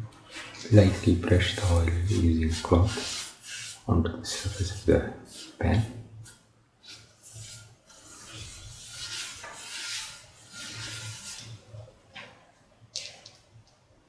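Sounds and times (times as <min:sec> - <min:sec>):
cloth rubbing on a pan: 0:00.3 - 0:12.3.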